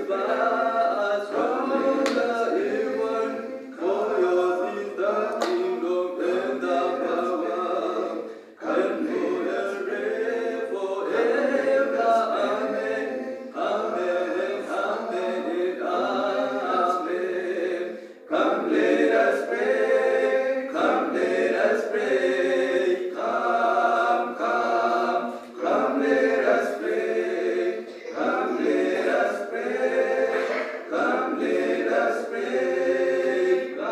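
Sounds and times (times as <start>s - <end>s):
choir singing a cappella: 0.0s - 33.9s.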